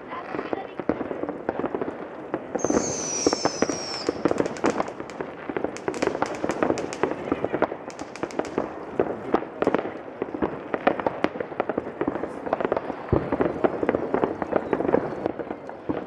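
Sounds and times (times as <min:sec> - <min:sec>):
fireworks popping and banging: 0:00.0 - 0:16.0.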